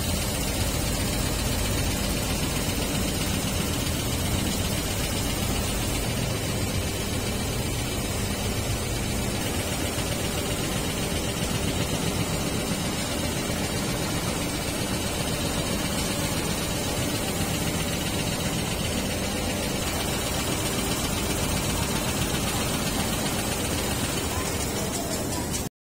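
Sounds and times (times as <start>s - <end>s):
quilting machines clattering: 0.0s - 25.7s.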